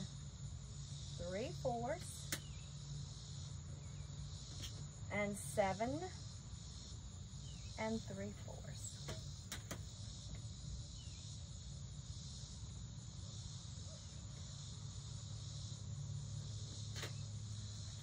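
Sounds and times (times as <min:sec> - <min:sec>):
high insect chorus: 0:00.0 - 0:18.0.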